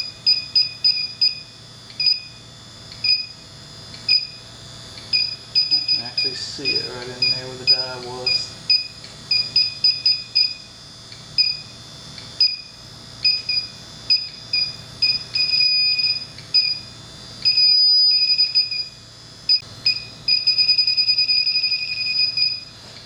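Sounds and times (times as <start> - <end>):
leak detector beeping: 0.0 - 22.7.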